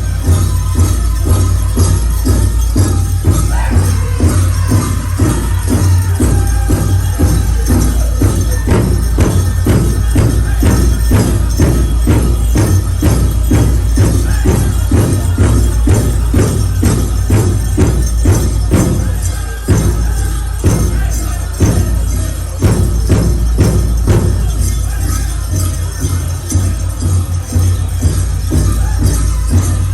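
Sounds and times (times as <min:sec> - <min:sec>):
bells jingling: 0:00.0 - 0:29.9
drum group beating: 0:00.0 - 0:29.9
people singing: 0:00.0 - 0:29.9.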